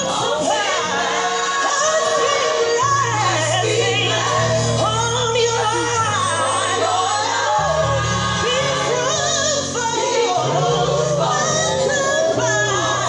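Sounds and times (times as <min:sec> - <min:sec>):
gospel voices singing: 0:00.0 - 0:13.0.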